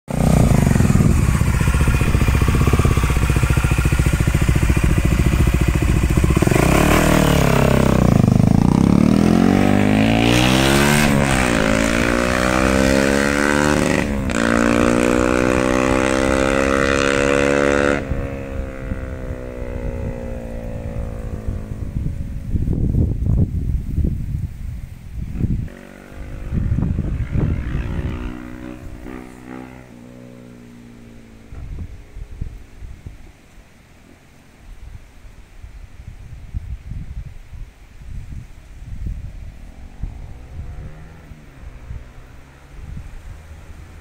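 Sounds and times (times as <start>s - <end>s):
motorcycle engine revving: 0.1s - 23.2s, 25.3s - 32.6s, 39.0s - 44.0s.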